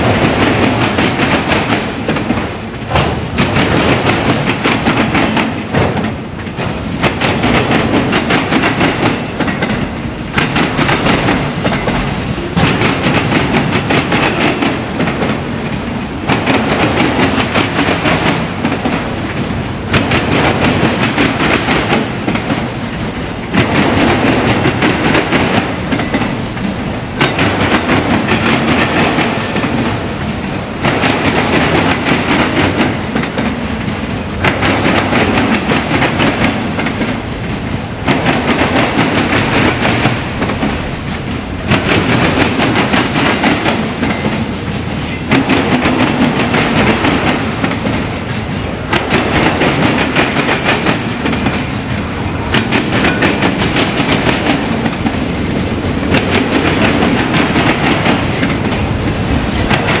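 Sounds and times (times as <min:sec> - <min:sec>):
freight train wheels clicking on rails: 0:00.0 - 1:00.0.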